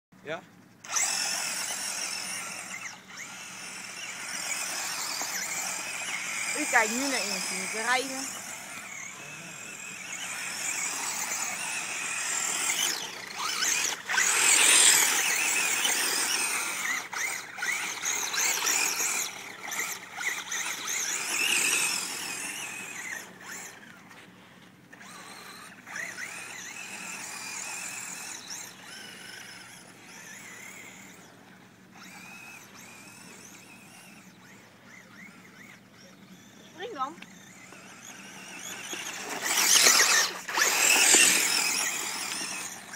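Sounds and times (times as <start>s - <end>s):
rc car motor whining: 0.2s - 42.9s.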